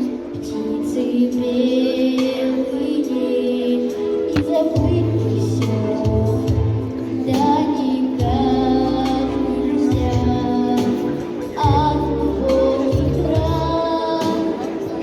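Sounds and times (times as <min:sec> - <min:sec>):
girl singing pop song: 0:00.0 - 0:15.0.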